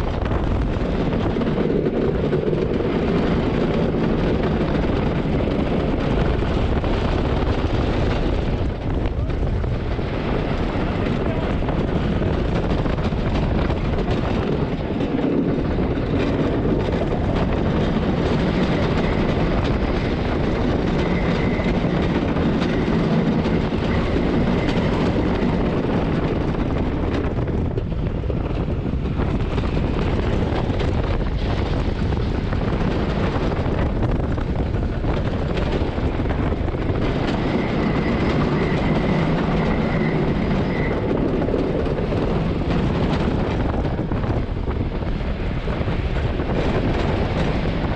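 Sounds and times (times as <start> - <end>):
roller coaster rattle and rumble: 0.0 - 47.9.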